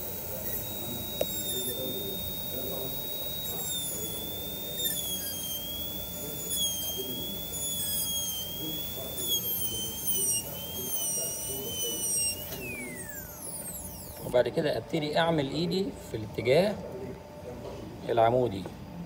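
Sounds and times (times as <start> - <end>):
dental drill whining: 0.0 - 16.8.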